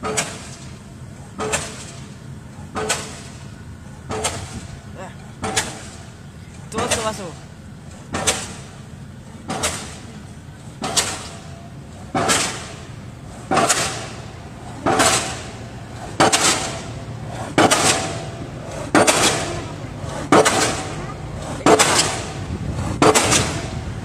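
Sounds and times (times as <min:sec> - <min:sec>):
pile driver hammer blows: 0:00.0 - 0:00.8, 0:01.4 - 0:04.7, 0:05.4 - 0:06.0, 0:08.1 - 0:08.8, 0:09.4 - 0:10.1, 0:10.8 - 0:24.0
low machine hum: 0:00.0 - 0:24.0.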